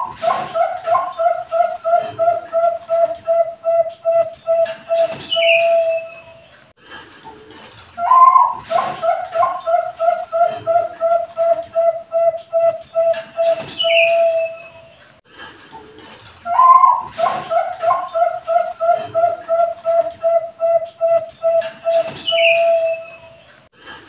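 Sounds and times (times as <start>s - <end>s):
dove cooing: 0.0s - 6.5s, 8.0s - 14.8s, 16.5s - 23.4s.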